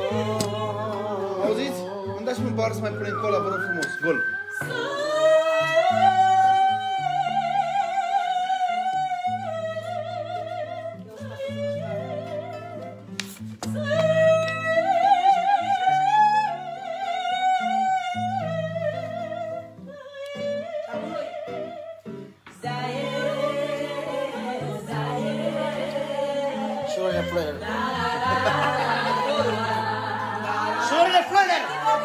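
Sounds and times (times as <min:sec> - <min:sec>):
person singing with vibrato: 0:00.0 - 0:13.1, 0:13.7 - 0:32.0.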